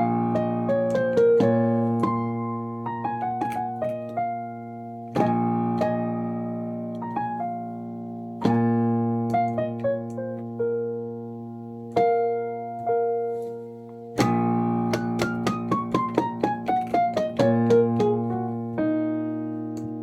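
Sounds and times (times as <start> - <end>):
piano chords and melody: 0.0 - 20.0.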